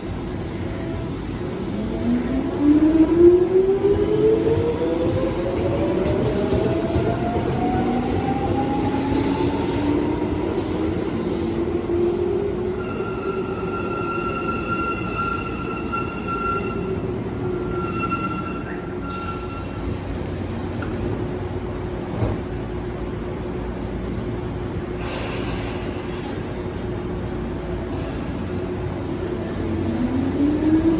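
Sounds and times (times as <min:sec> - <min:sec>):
train running noise: 0:00.0 - 0:30.9.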